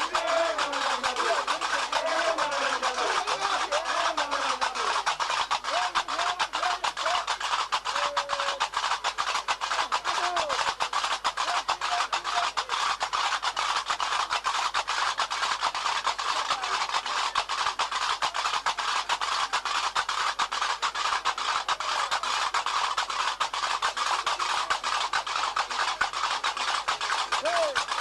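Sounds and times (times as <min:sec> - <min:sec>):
fast percussion music: 0:00.0 - 0:28.0.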